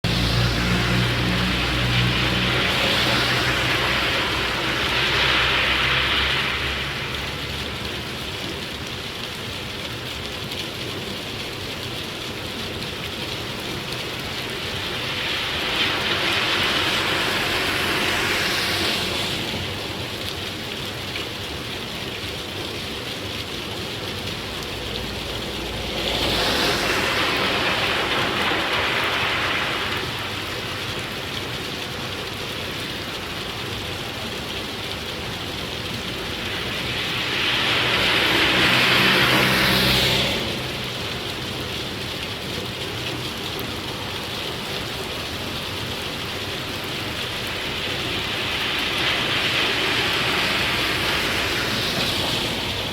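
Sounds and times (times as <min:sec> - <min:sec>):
car tyres swishing on wet road: 0:00.0 - 0:52.9
steady rain on a street: 0:00.0 - 0:52.9.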